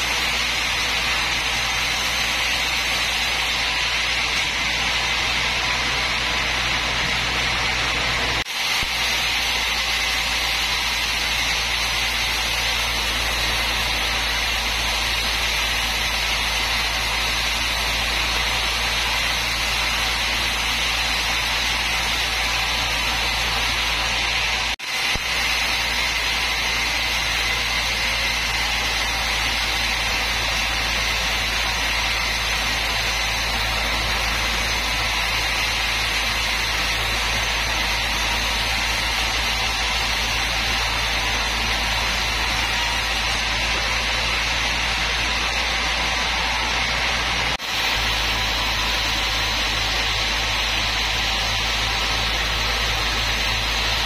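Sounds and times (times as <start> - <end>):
low machine hum: 0.0 - 54.0
saw blade cutting whine: 0.0 - 54.0.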